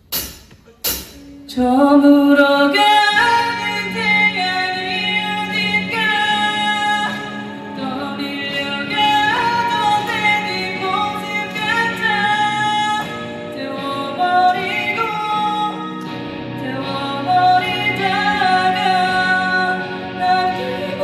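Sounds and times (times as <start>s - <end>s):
woman singing: 1.3s - 21.0s.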